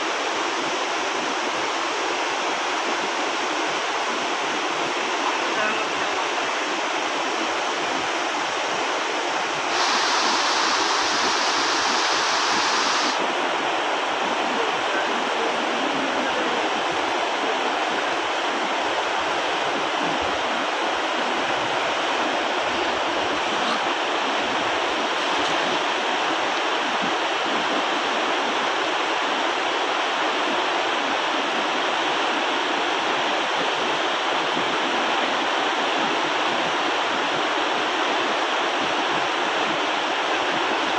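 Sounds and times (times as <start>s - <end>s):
water rushing over a weir: 0.0s - 40.9s.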